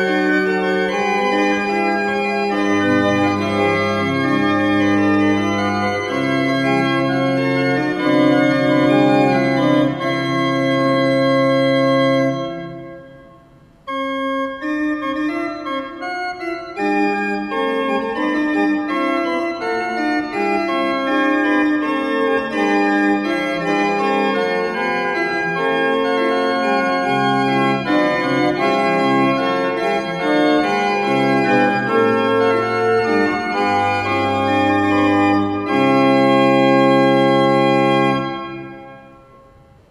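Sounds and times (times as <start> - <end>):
organ playing held chords: 0.0 - 39.9.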